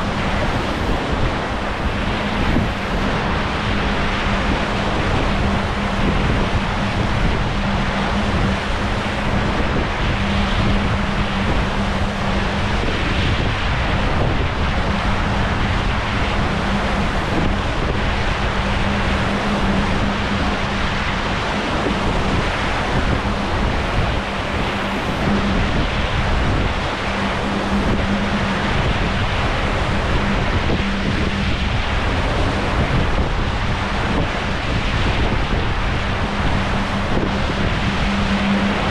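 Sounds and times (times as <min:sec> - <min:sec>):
steady low hum: 0:00.0 - 0:38.9
wind buffeting microphone: 0:00.0 - 0:38.9.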